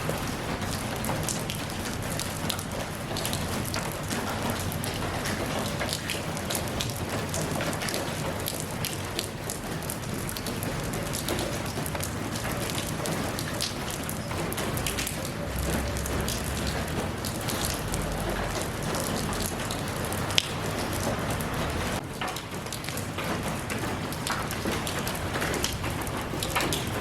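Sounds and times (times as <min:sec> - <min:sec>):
rain pattering: 0:00.0 - 0:27.0.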